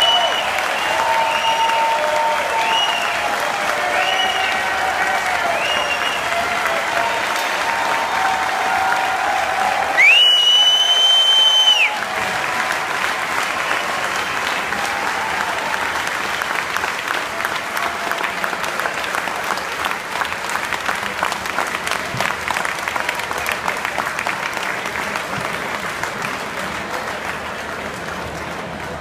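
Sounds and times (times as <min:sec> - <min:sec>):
crowd applauding: 0:00.0 - 0:29.0.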